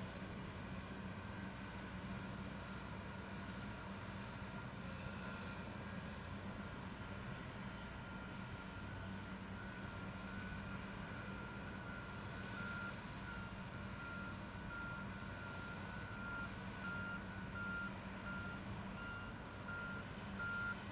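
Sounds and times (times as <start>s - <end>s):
diesel engines droning: 0.0s - 20.9s.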